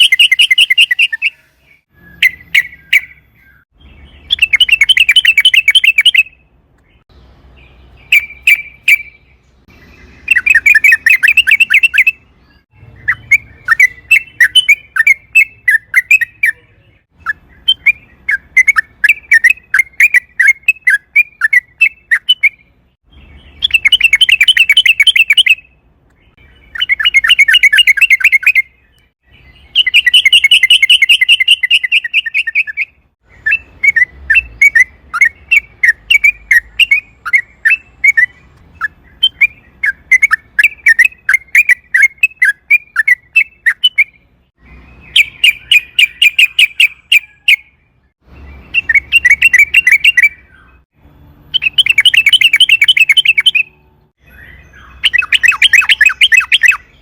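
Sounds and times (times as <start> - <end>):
bird singing bubbling notes: 0.0 - 50.8, 51.5 - 57.0
bird chirps: 0.0 - 57.0.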